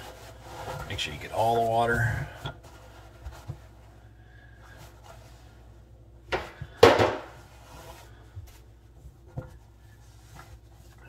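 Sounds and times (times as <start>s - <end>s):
paper towel handling: 0.0s - 11.0s.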